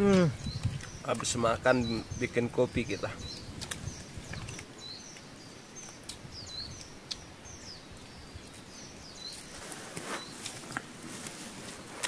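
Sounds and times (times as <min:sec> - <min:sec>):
small bird chirping: 0:00.0 - 0:10.7
forest background sound: 0:00.0 - 0:12.0.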